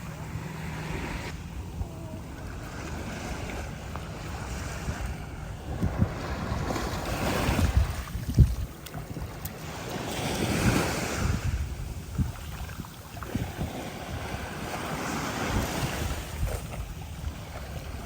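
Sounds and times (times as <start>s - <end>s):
sea waves washing on shore: 0.0s - 18.0s
wind buffeting microphone: 0.0s - 18.0s.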